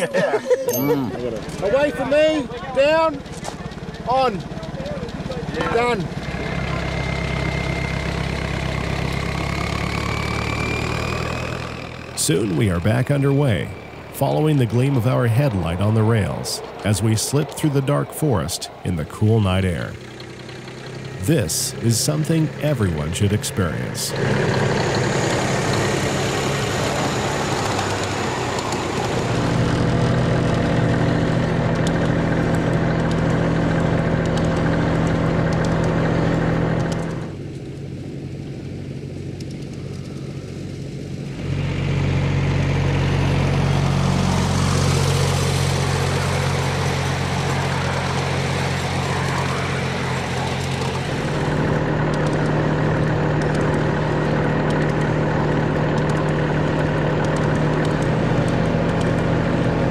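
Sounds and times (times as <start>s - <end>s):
miniature train engine running: 1.1s - 37.2s, 43.0s - 59.9s.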